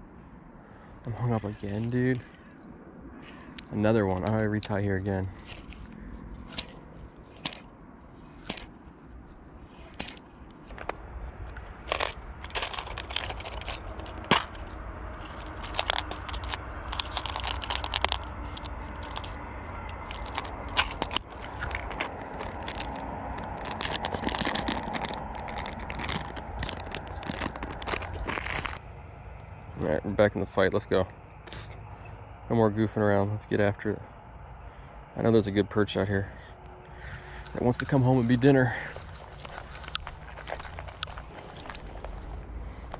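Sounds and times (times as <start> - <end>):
low steady rumble: 0.0 - 42.9.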